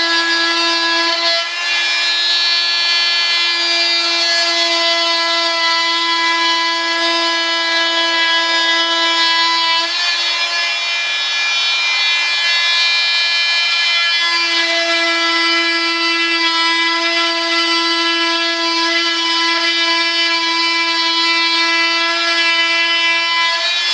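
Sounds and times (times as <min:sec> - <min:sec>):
oscillating multi-tool buzzing: 0:00.0 - 0:23.9.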